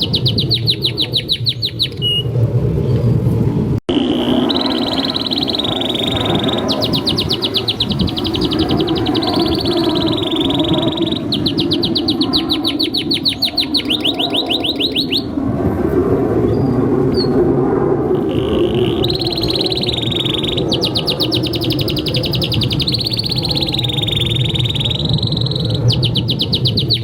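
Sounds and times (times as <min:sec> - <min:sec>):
canary singing trills: 0:00.0 - 0:02.3, 0:03.9 - 0:15.4, 0:18.2 - 0:27.0.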